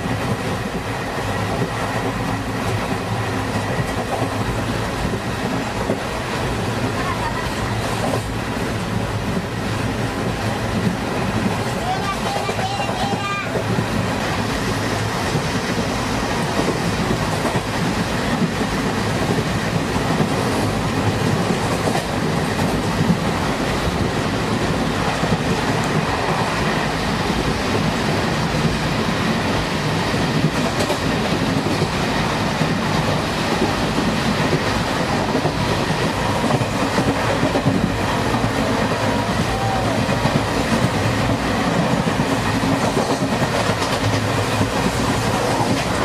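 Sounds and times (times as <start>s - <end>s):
train wheels on track: 0.0s - 46.0s.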